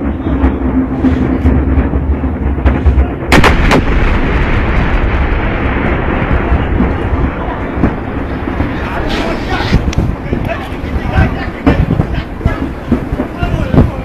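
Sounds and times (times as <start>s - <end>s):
low rumbling: 0.0s - 14.0s
sharp explosion blasts: 0.0s - 14.0s.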